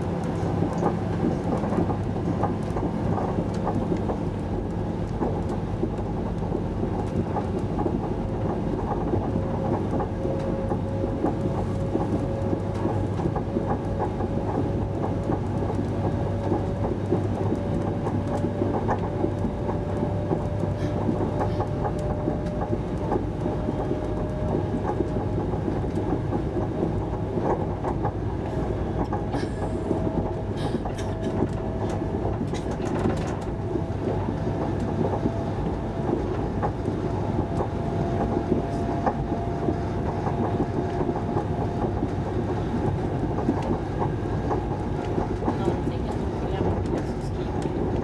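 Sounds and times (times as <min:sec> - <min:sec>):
faint train whine: 0:00.0 - 0:48.0
train wheels rumbling: 0:00.0 - 0:48.0.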